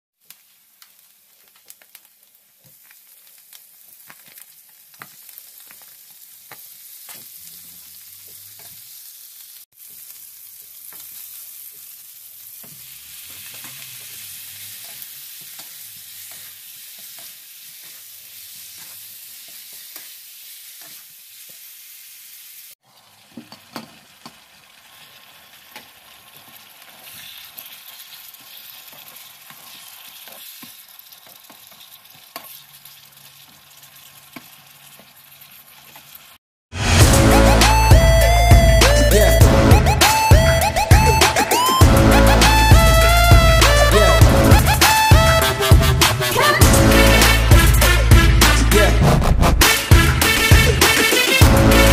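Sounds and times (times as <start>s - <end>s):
food sizzling in frying pan: 0.2s - 49.0s, 49.6s - 51.9s.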